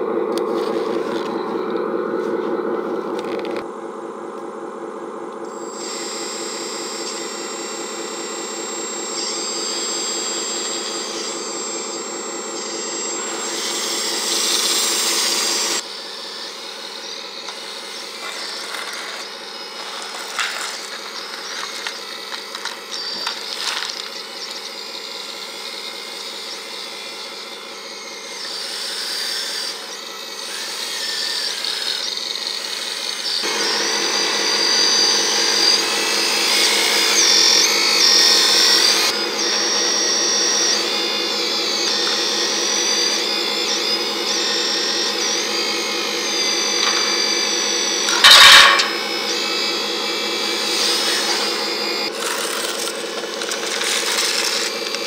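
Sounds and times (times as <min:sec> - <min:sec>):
toy loader electric motor whining: 0:00.0 - 0:03.7, 0:05.4 - 0:55.0.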